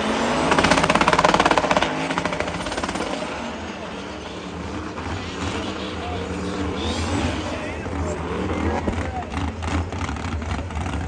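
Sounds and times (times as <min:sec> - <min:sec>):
engine revving in burnout: 0:00.0 - 0:11.0.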